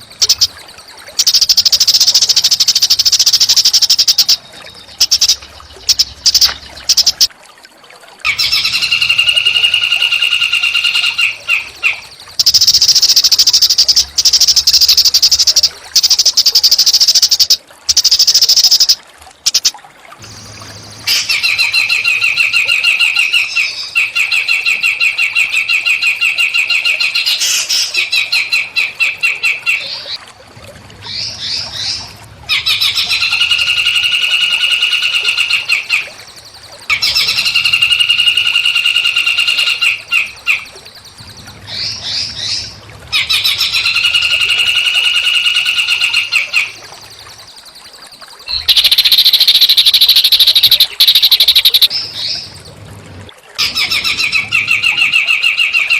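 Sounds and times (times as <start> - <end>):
songbird buzzy trills: 0.0 - 7.3, 8.3 - 30.3, 30.9 - 55.9.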